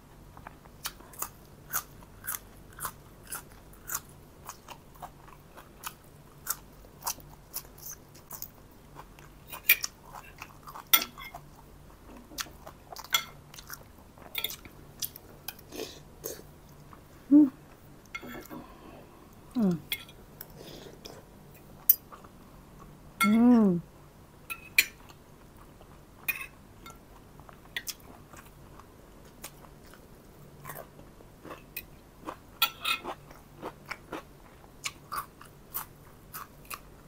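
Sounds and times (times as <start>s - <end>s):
chewing crisp green onion: 0.3s - 23.0s, 24.8s - 37.0s.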